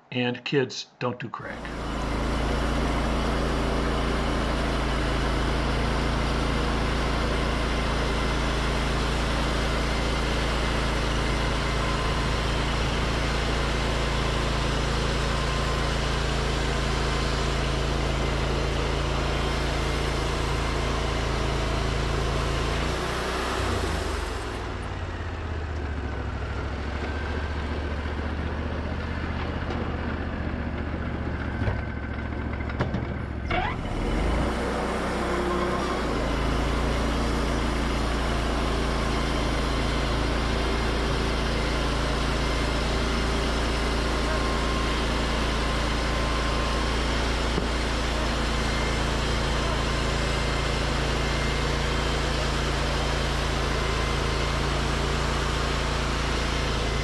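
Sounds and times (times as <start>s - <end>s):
sawmill engine running: 1.4s - 57.0s.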